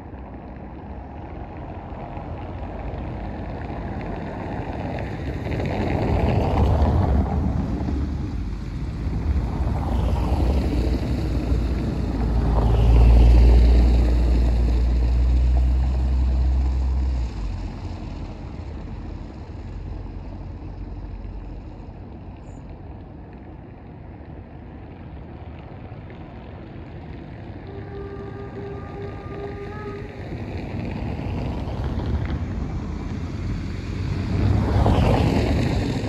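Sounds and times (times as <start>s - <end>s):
steam train rolling rumble: 0.0s - 36.0s.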